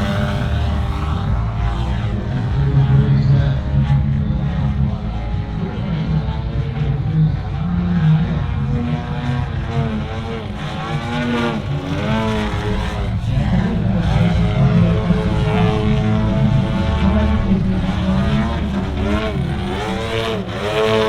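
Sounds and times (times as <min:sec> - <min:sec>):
model plane engine and propeller: 0:00.0 - 0:21.0.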